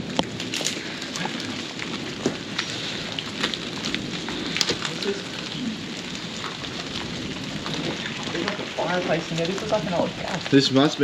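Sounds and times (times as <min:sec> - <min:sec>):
close drop ticks and crackles: 0:00.0 - 0:11.0
steady rain falling: 0:00.0 - 0:11.0.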